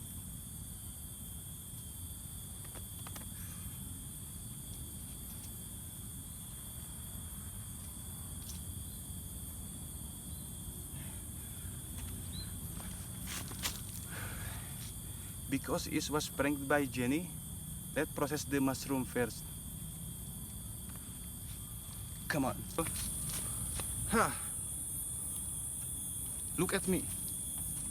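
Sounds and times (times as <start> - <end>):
insects trilling: 0.0 - 27.9.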